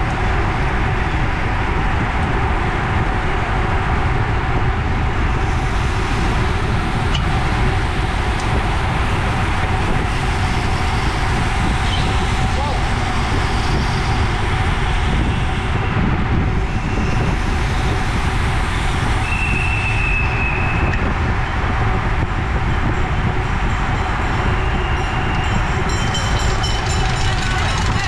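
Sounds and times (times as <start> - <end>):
bike tyres on asphalt: 0.0 - 28.0
wind on microphone: 0.0 - 28.0.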